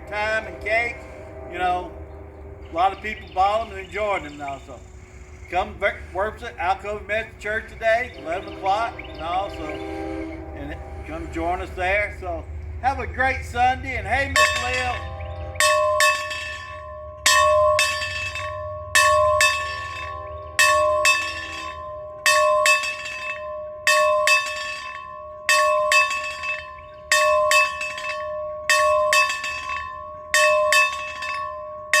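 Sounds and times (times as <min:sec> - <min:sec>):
church bell ringing: 0:00.0 - 0:32.0.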